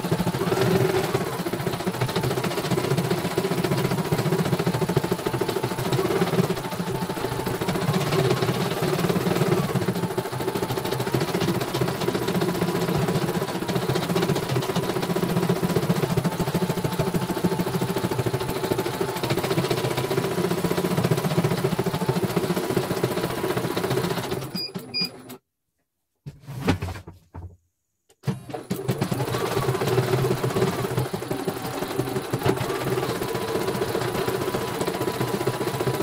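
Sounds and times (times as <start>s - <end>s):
embroidery machine stitching: 0.0s - 25.4s, 28.2s - 36.0s.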